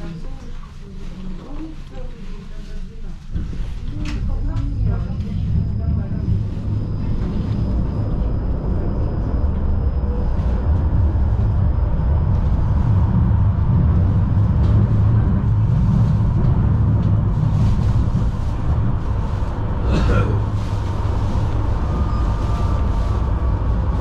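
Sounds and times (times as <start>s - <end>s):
tram wheels rumbling on rails: 3.2s - 24.0s
faint high whine: 4.4s - 24.0s.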